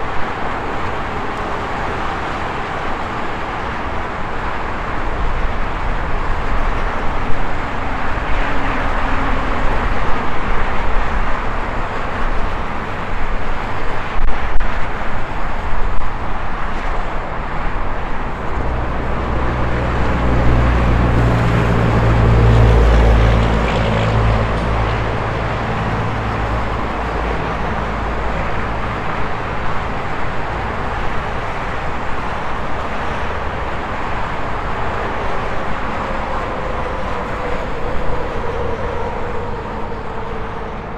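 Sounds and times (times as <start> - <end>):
highway traffic tyre noise: 0.0 - 40.9
truck engine rumble: 0.0 - 40.9.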